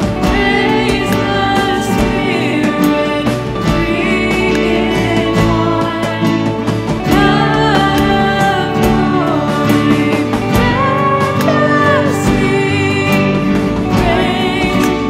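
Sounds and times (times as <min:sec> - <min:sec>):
drum kit beat: 0:00.0 - 0:15.0
guitars: 0:00.0 - 0:15.0
keyboard: 0:00.0 - 0:15.0
women singing together: 0:00.0 - 0:15.0.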